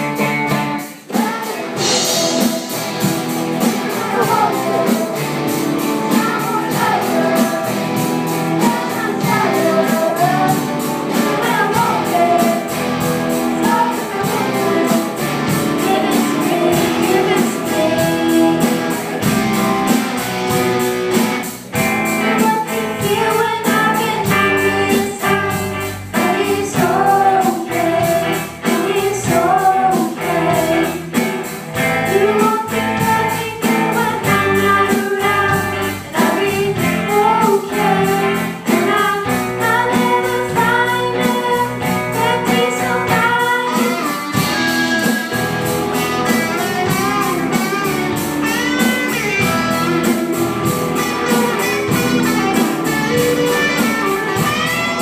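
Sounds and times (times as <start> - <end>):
bass guitar: 0.0 - 55.0
drum kit steady beat: 0.0 - 55.0
electric guitars: 0.0 - 55.0
women singing: 0.9 - 19.4, 22.2 - 31.2, 32.0 - 55.0.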